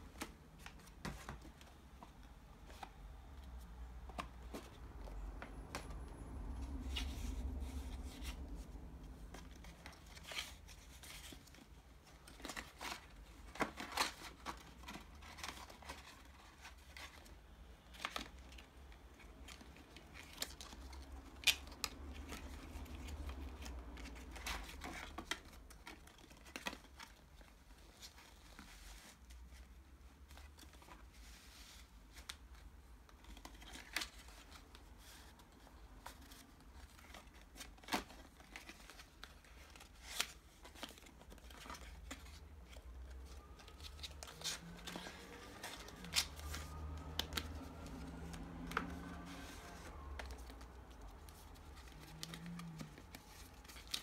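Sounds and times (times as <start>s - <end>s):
paper rustling and rubbing: 6.4s - 18.3s, 19.2s - 54.0s.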